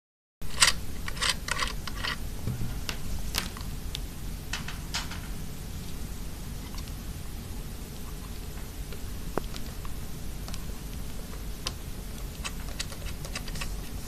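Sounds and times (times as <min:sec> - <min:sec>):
low steady rumble: 0:00.4 - 0:14.0.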